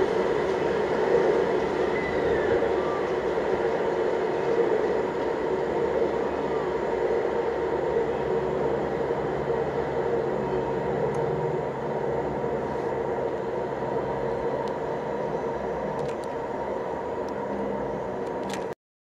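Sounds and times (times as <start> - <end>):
freight train rumbling: 0.0 - 18.7
constant hum: 0.0 - 18.8.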